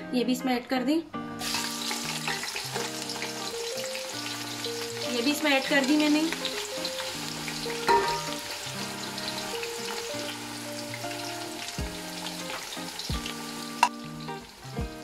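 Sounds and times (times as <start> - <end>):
onions sizzling in hot oil: 1.4 - 15.0.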